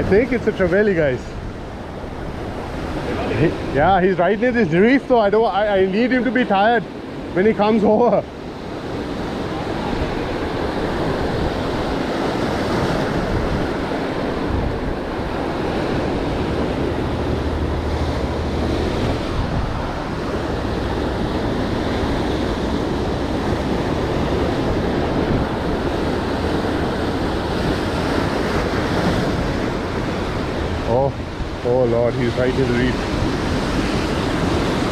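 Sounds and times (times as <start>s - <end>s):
waves breaking on shore: 0.0s - 34.9s
wind buffeting microphone: 0.0s - 34.9s.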